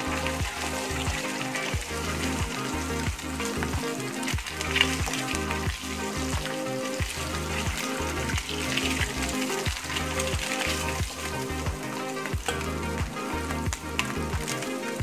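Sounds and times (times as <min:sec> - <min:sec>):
background music with beat: 0:00.0 - 0:15.0
food sizzling in oil: 0:00.0 - 0:15.0.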